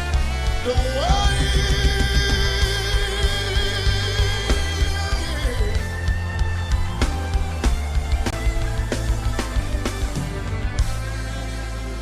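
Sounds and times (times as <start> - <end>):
worship band music: 0.0 - 12.0.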